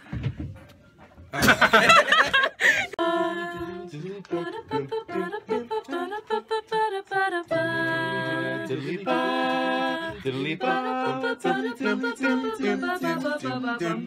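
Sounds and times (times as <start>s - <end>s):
voices singing in harmony: 1.4s - 14.0s.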